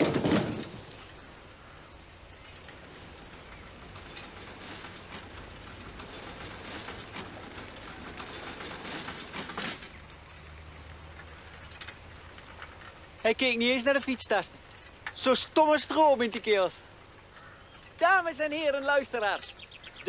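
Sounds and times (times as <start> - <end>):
barrier clicking and rattling: 0.0 - 1.4, 2.3 - 20.0.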